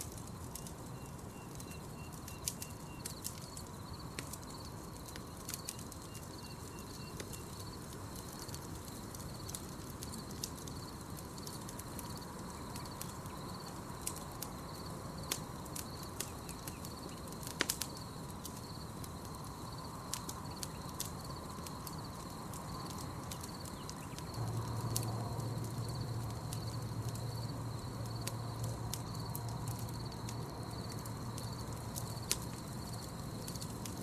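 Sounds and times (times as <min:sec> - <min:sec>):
campfire crackling: 0:00.0 - 0:34.0
fire popping: 0:00.0 - 0:34.0
night insects trilling: 0:00.0 - 0:34.0.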